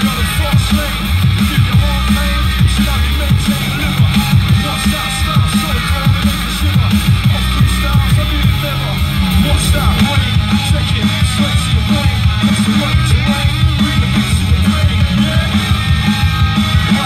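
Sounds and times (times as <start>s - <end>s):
rock music with fast beat: 0.0s - 17.0s.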